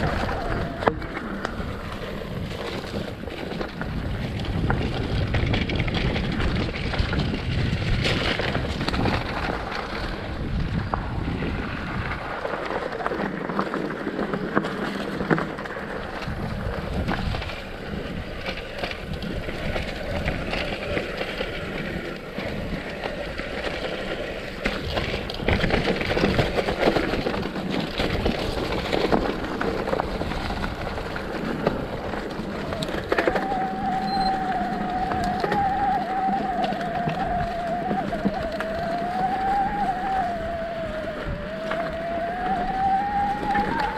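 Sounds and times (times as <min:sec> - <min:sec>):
bike rattling and knocking: 0:00.0 - 0:43.9
steady squeal: 0:00.0 - 0:43.9
tyres over dirt and stones: 0:00.0 - 0:43.9.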